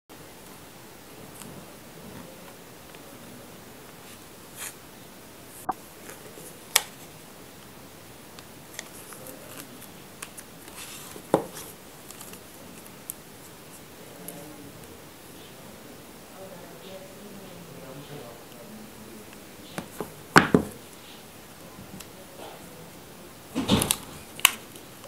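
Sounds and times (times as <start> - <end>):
faint steady hiss: 0.1 - 25.0.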